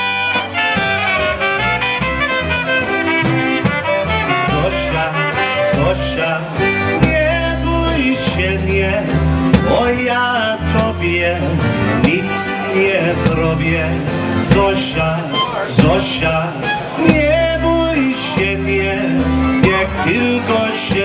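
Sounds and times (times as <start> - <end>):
bass guitar: 0.0 - 21.0
concertina: 0.0 - 21.0
drum kit: 0.0 - 21.0.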